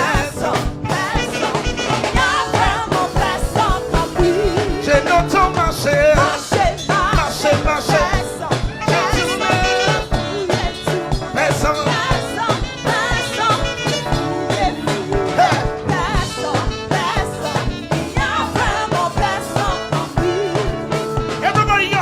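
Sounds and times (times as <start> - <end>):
gospel choir singing: 0.0 - 21.5
band accompaniment: 0.0 - 22.0
steady drum beat: 0.0 - 22.0.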